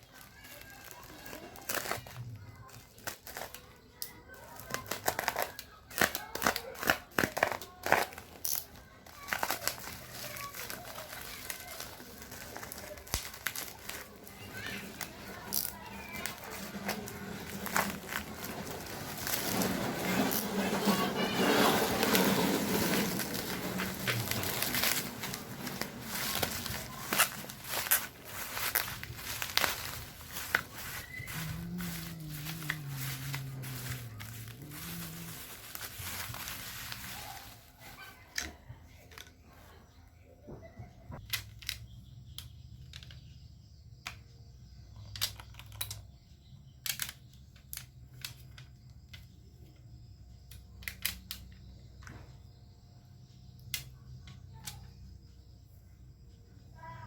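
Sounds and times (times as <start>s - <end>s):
small parts clicking and tapping: 0.0s - 21.0s, 22.0s - 37.6s, 41.2s - 49.8s, 50.4s - 52.3s.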